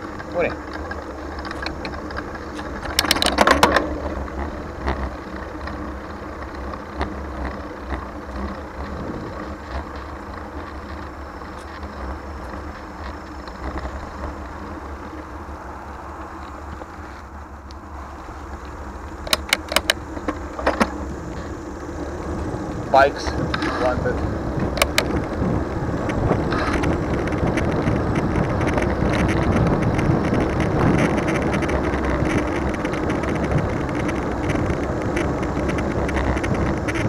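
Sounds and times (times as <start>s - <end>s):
bicycle rattling clicks: 0.0s - 17.0s, 18.4s - 37.0s
wind and tyres rumbling: 0.0s - 37.0s.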